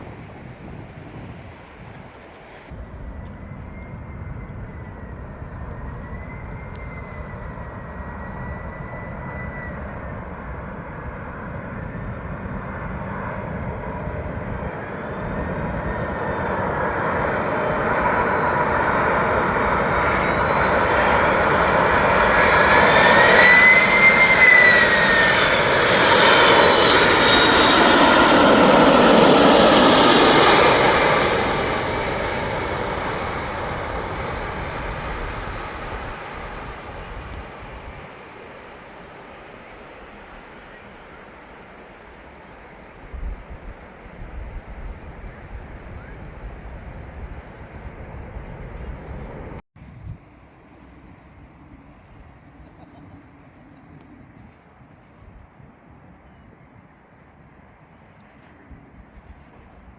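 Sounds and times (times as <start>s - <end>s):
jet aircraft passing with whine: 0.0s - 59.9s.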